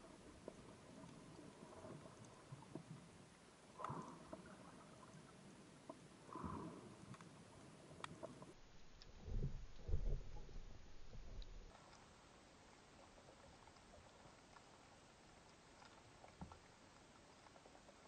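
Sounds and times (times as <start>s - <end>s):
low watery rumble underwater: 0.0s - 18.0s
small clicks underwater: 0.0s - 18.0s.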